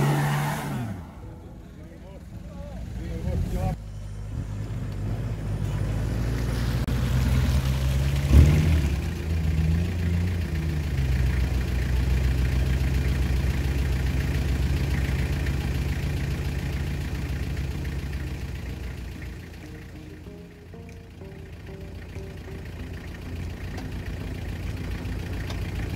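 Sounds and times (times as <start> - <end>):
diesel engine pulling under load: 0.0 - 25.9.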